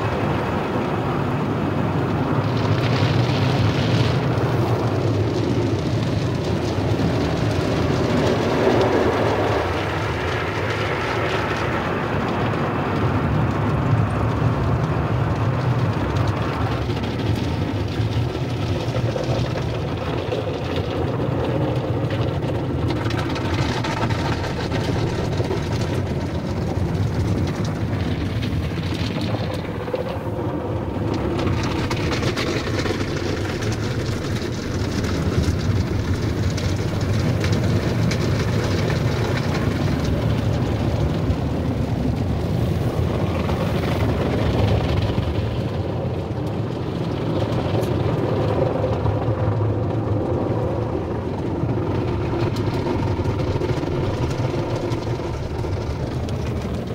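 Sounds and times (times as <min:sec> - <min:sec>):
car wash machinery running: 0:00.0 - 0:56.9
water spray rushing on car: 0:00.0 - 0:56.9.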